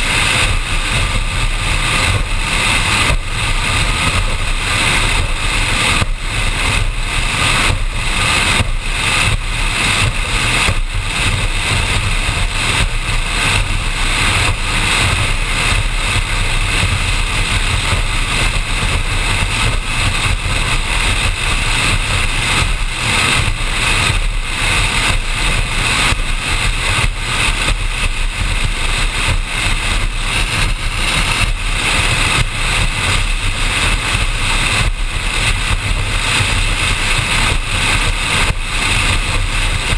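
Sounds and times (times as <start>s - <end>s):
powerboat engine drone: 0.0s - 39.9s
wind and water rushing: 0.0s - 39.9s.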